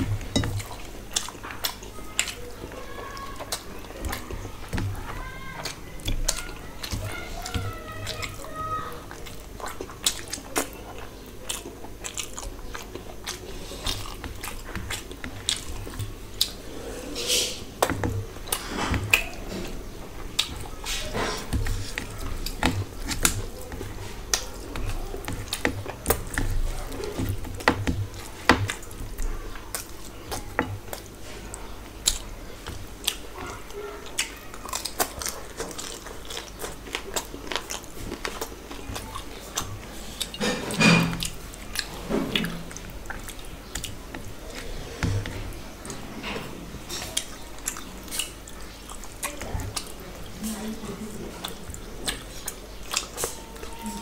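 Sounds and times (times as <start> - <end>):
person chewing with lip smacking: 0.0 - 54.0.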